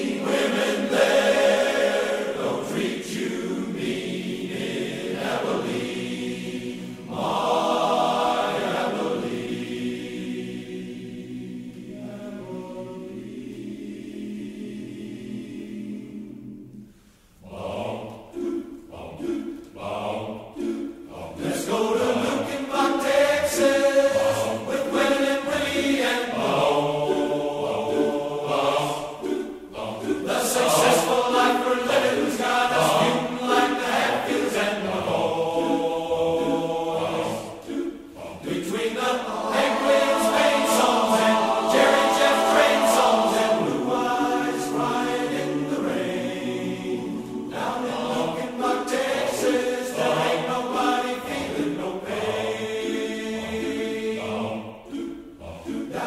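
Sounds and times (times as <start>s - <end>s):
men's chorus singing in harmony: 0.0s - 16.8s, 17.4s - 56.0s.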